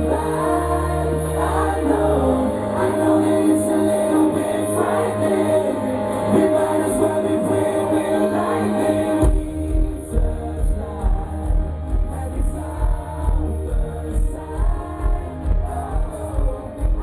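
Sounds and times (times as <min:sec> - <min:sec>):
live pop band: 0:00.0 - 0:17.0
person singing: 0:00.0 - 0:17.0.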